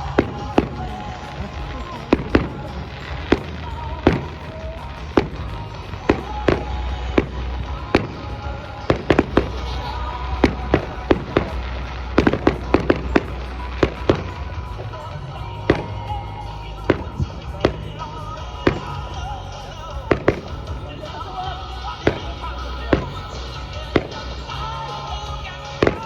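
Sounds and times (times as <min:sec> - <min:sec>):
fireworks bangs and cracks: 0:00.0 - 0:26.0
music: 0:00.0 - 0:26.0.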